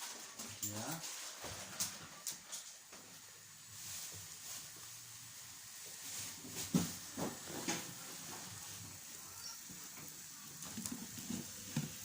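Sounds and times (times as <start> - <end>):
steady faint hiss: 0.0 - 12.0.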